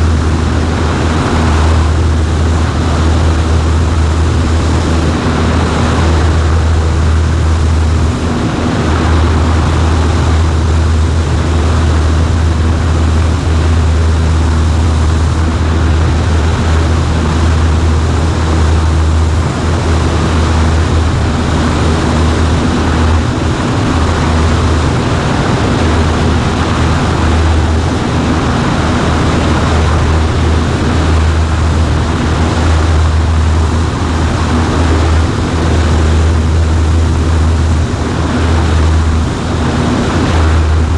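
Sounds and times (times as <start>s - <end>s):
propeller plane engine drone: 0.0s - 40.9s
rushing air noise: 0.0s - 40.9s.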